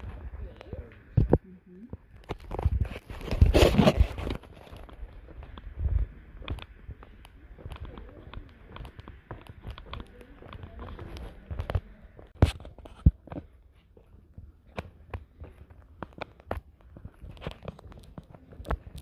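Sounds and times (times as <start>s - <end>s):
footsteps on trail: 2.1s - 19.0s.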